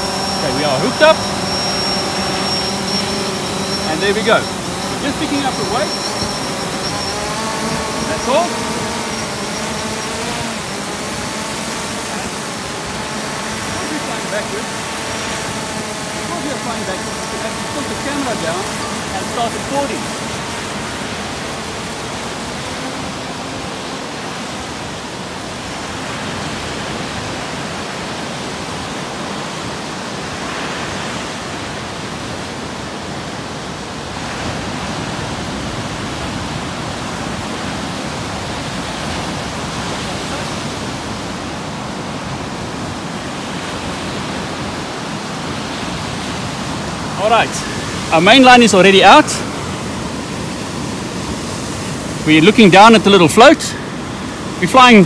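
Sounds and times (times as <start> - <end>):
surf breaking on beach: 0.0 - 55.0.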